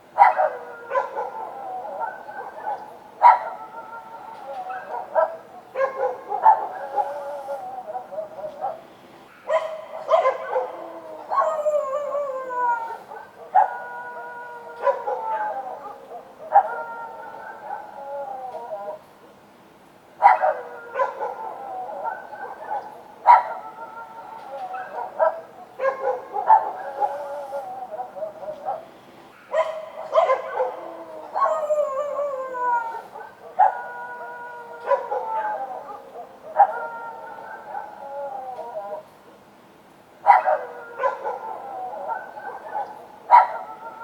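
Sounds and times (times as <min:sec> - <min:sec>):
dogs barking and howling: 0:00.0 - 0:19.2, 0:20.2 - 0:39.2, 0:40.2 - 0:44.0.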